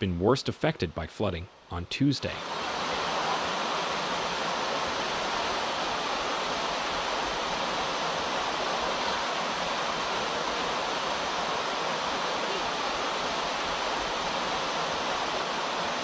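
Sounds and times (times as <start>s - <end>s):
floodwater rushing: 2.2s - 16.0s.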